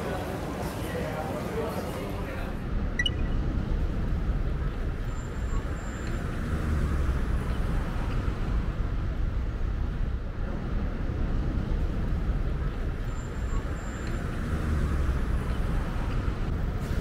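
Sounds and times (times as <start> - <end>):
low rumble of vehicle noise: 0.0 - 17.0.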